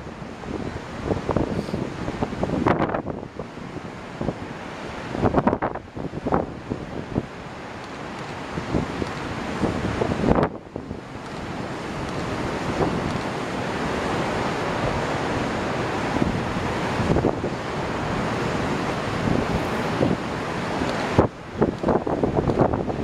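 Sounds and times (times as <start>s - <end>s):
sea waves washing against rocks: 0.0s - 23.0s
wind gusting on microphone: 0.0s - 23.0s.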